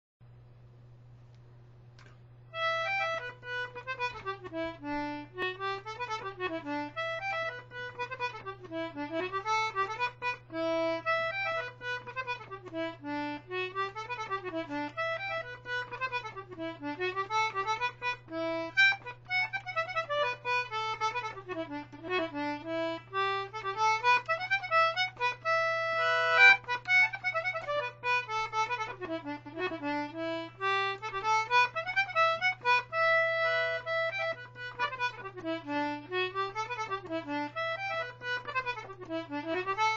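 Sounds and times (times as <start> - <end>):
concertina playing a reel: 2.0 - 39.9.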